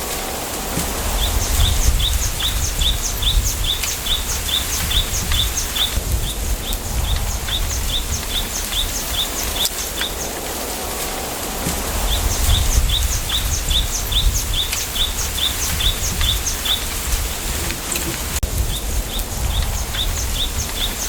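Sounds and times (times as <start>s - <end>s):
wind rumble on microphone: 0.0s - 21.0s
small bird chirping: 1.2s - 10.4s, 12.0s - 21.0s.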